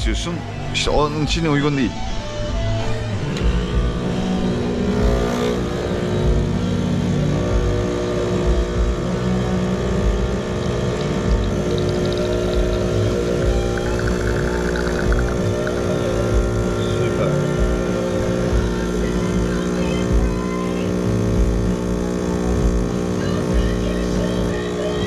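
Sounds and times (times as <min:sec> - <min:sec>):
espresso machine pump humming: 0:03.4 - 0:25.0.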